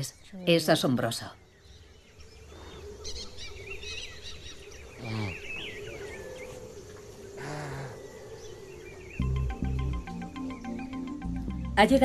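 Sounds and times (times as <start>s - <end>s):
birds chirping and whistling: 1.5s - 12.0s.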